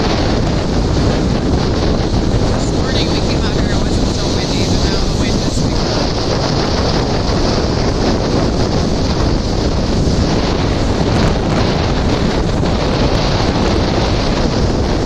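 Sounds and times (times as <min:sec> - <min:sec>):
heavy surf breaking: 0:00.0 - 0:15.0
storm wind buffeting microphone: 0:00.0 - 0:15.0.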